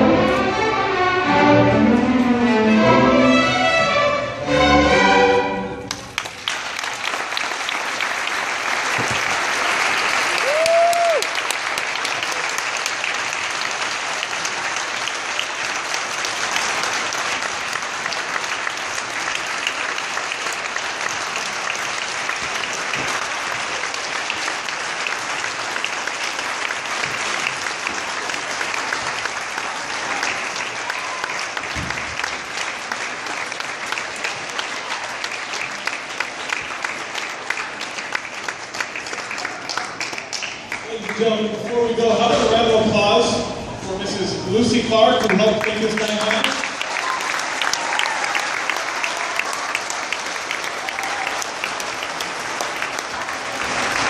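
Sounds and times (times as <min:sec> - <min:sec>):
audience applauding: 0:05.8 - 0:42.3, 0:44.6 - 0:54.0.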